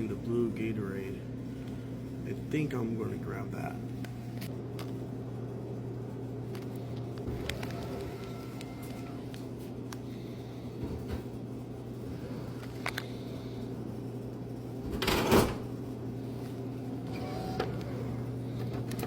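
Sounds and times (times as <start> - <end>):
vending machine humming: 0.0 - 19.0.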